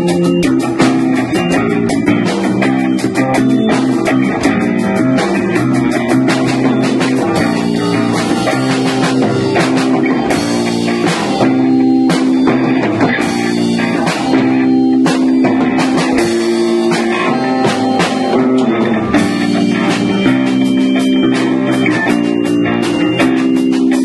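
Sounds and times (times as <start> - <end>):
amplified guitar chords: 0.0 - 24.0
drums: 0.0 - 24.0.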